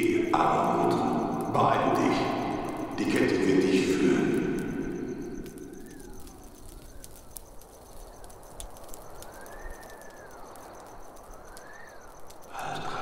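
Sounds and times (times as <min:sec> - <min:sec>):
crackling campfire: 0:00.0 - 0:13.0
whistling tones: 0:00.0 - 0:13.0.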